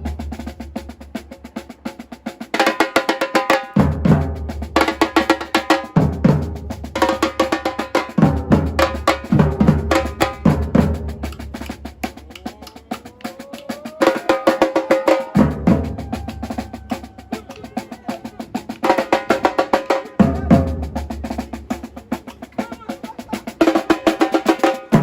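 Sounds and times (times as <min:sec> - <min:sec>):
drum ensemble playing: 0:00.0 - 0:25.0.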